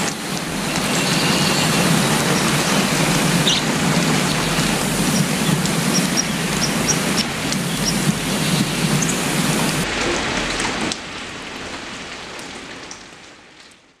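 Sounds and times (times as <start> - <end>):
rain falling on water: 0.0 - 14.0.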